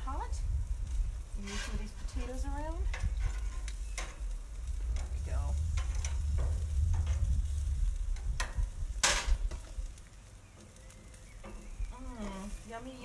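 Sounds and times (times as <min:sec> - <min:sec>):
vegetables sizzling on grill: 0:00.0 - 0:13.0
wind rumbling on microphone: 0:00.0 - 0:13.0.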